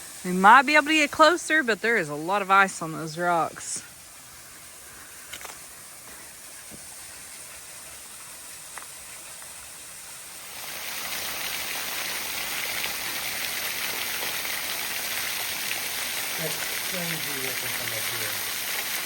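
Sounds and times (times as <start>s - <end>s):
small waterfall flowing over rocks: 0.0s - 19.0s.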